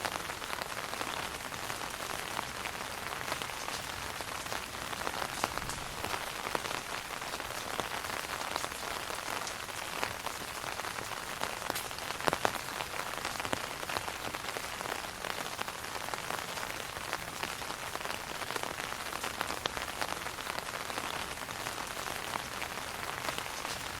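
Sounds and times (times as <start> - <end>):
rain falling on an umbrella: 0.0 - 24.0.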